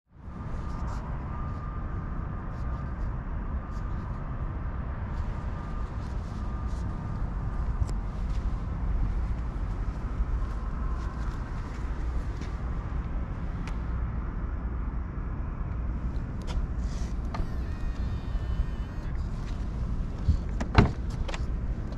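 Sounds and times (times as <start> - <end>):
low outdoor rumble: 0.1 - 21.9
faint high hum: 0.2 - 21.9.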